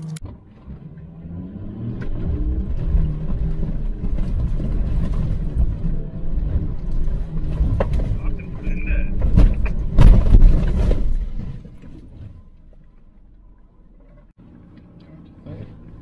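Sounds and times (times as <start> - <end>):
diesel engine pulling steadily: 0.0 - 16.0
low rumble from tyres on sand: 0.0 - 16.0.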